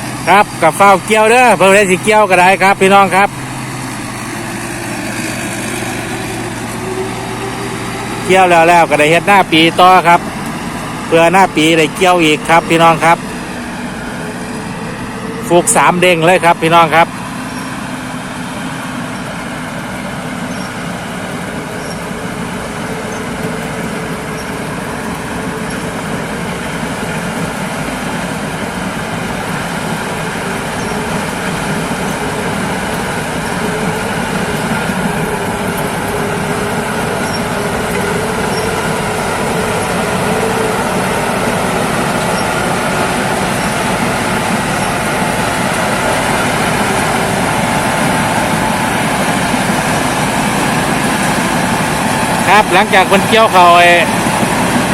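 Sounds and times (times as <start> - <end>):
combine harvester engine drone: 0.0 - 54.9.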